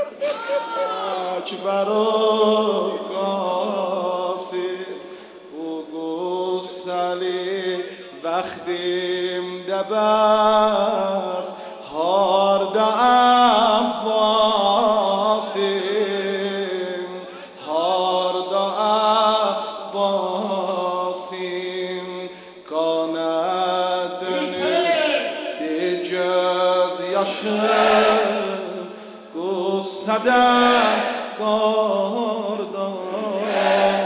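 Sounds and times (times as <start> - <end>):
man chanting a lament: 0.0 - 34.0.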